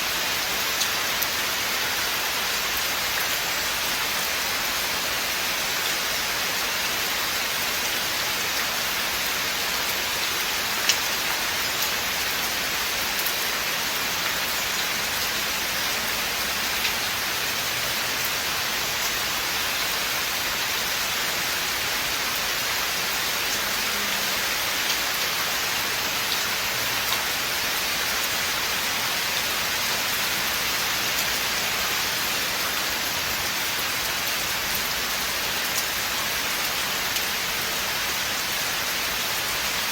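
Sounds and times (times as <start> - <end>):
rain falling through forest: 0.0 - 39.9.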